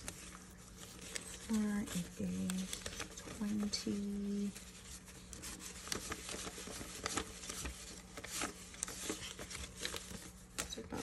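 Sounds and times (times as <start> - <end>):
paper bills rustling and flicking: 0.0 - 11.0.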